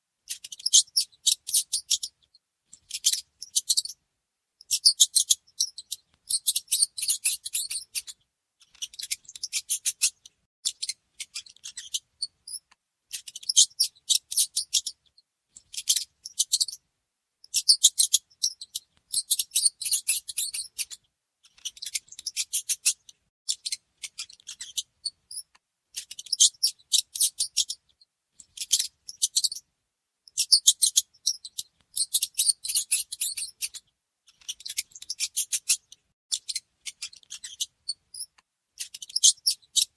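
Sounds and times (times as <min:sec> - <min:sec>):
mice squeaking: 0:00.3 - 0:04.0, 0:04.6 - 0:16.8, 0:17.4 - 0:29.6, 0:30.3 - 0:39.9.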